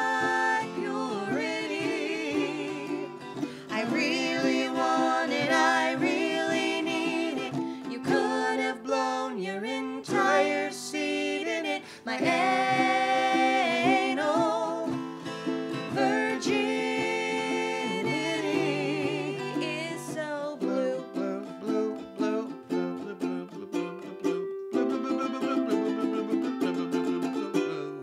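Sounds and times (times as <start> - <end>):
woman and man singing: 0.0 - 24.1
ukulele and acoustic guitar: 0.0 - 28.0.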